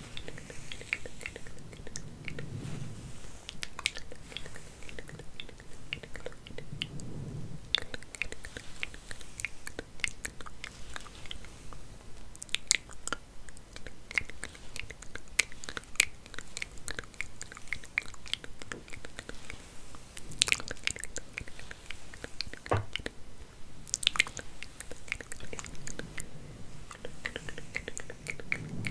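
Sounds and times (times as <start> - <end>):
hair being combed crackles: 0.0 - 28.9.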